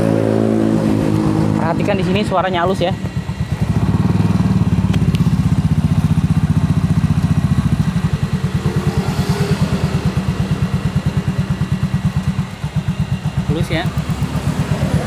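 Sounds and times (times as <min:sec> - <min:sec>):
scooter engine idling: 0:00.0 - 0:15.0.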